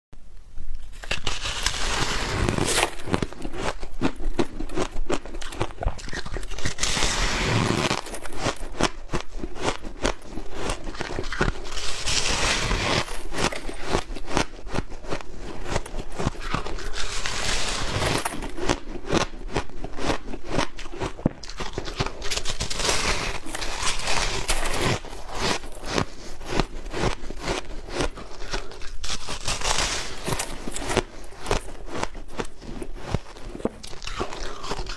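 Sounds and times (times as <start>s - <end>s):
crunching ice: 0.9s - 34.9s.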